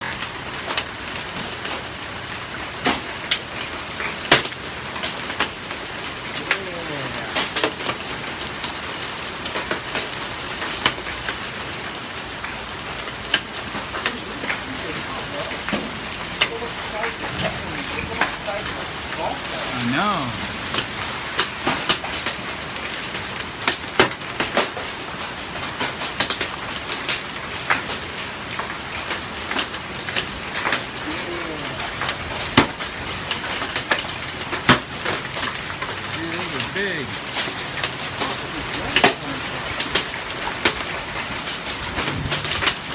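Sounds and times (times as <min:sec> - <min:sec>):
hailstones cracking nearby: 0:00.0 - 0:42.9
hiss of falling hail: 0:00.6 - 0:42.9.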